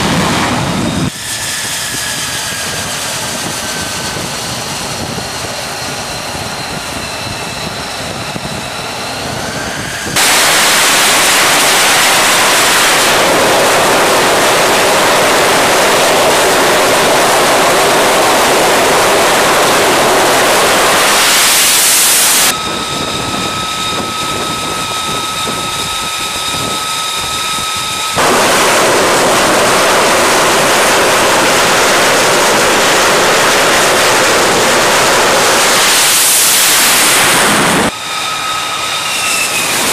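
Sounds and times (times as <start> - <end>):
jet engine roar at full power: 0.0 - 39.9
jet engine whine: 0.0 - 39.9.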